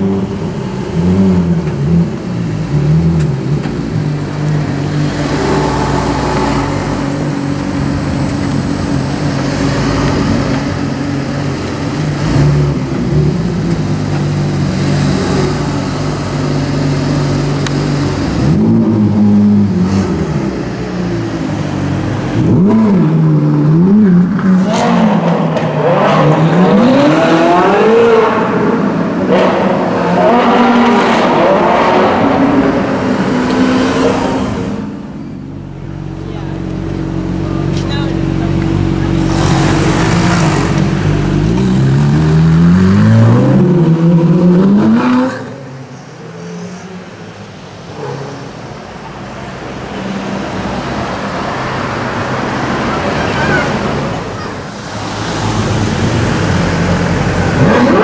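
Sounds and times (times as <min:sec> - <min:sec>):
car engines idling: 0:00.0 - 0:27.7, 0:31.3 - 0:58.0
car engine revving: 0:00.0 - 0:46.0, 0:46.6 - 0:58.0.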